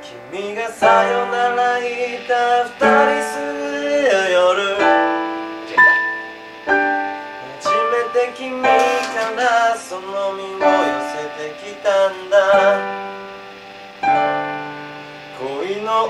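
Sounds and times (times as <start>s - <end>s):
digital piano chords: 0.0s - 16.0s
electronic drum kit: 0.0s - 16.0s.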